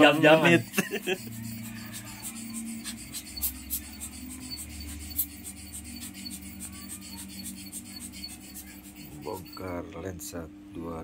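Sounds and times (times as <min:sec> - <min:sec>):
brush scrubbing camera lens: 0:00.0 - 0:09.7.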